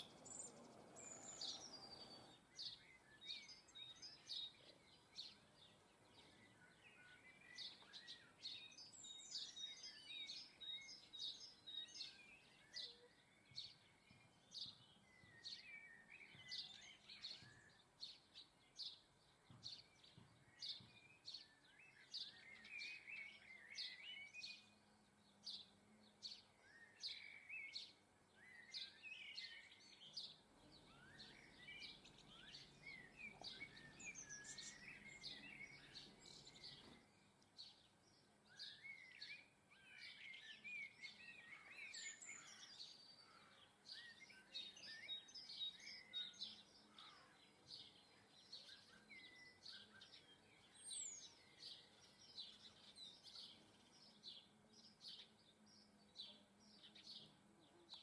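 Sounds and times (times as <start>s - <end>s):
faint birdsong: 0.0s - 58.0s.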